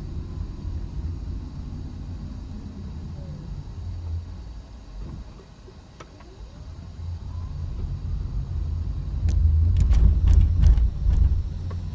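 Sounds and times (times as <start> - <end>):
car engine and road rumble: 0.0 - 11.9.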